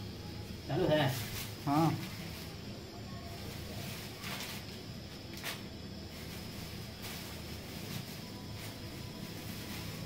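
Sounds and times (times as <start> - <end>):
steady low hum: 0.0 - 10.0
plastic bag rustling: 0.7 - 10.0.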